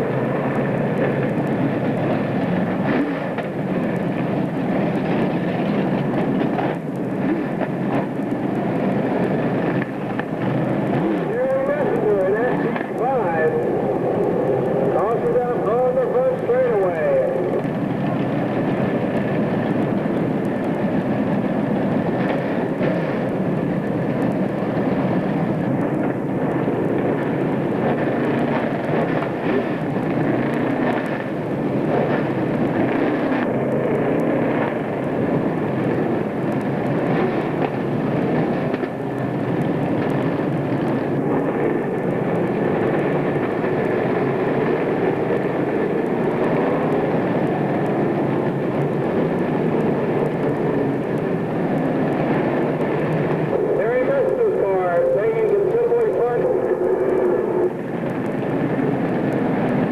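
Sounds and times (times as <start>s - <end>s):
race car engines droning: 0.0s - 59.9s.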